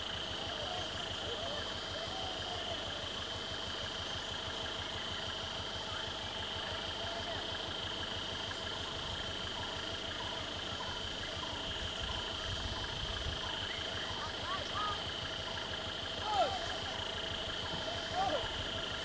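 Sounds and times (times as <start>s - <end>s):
car engine idling: 0.0s - 19.0s
faint chirps: 0.0s - 19.0s.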